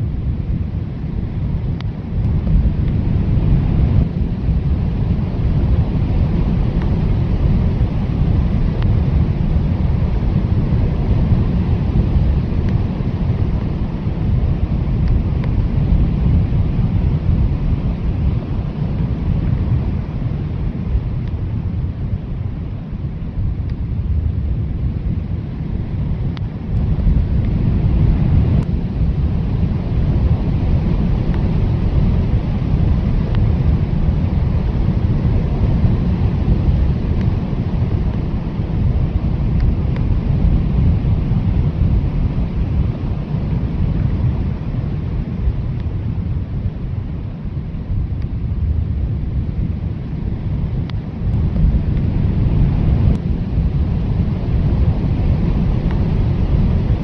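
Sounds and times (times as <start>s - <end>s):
blizzard wind blowing hard: 0.0s - 57.0s.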